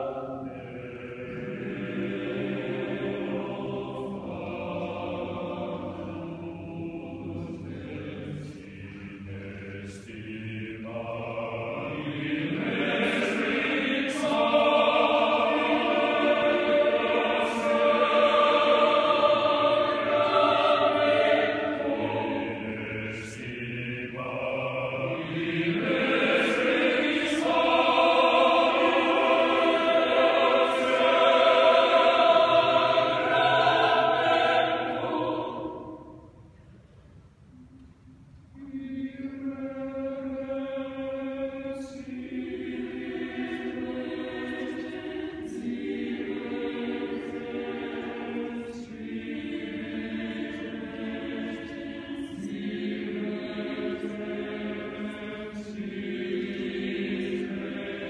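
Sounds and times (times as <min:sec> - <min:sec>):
mixed choir singing: 0:00.0 - 0:36.5, 0:38.6 - 0:58.0.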